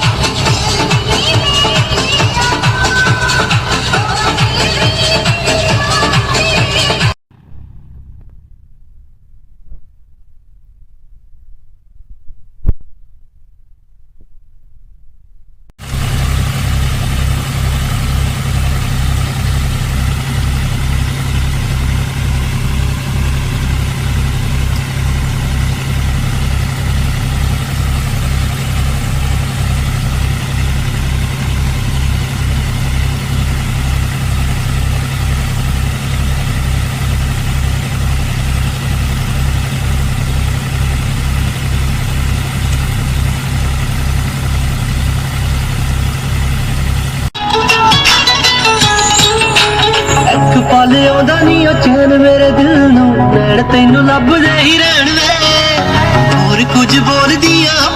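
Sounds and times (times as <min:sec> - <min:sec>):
tractor diesel engine running: 0:00.0 - 0:10.8, 0:15.8 - 0:57.9.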